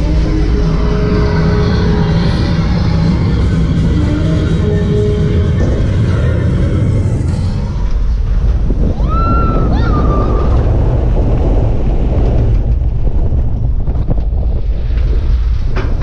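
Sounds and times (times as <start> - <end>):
boat rumbling along steel track: 0.0 - 16.0
wind buffeting microphone: 0.0 - 16.0.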